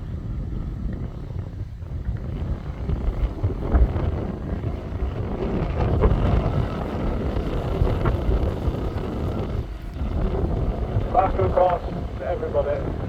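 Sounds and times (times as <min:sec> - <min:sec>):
off-road vehicle engine rumble: 0:00.0 - 0:13.0
wind buffeting microphone: 0:00.0 - 0:13.0.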